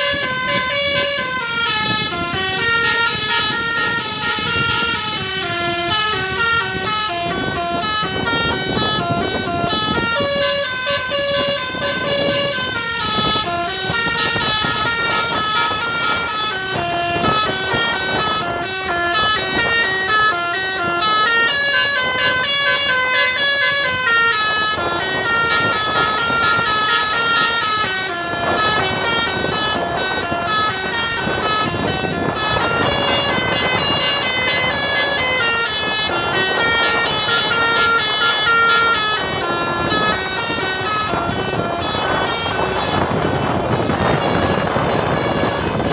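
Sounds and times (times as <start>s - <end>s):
musical bus horn playing a tune: 0.0s - 45.9s.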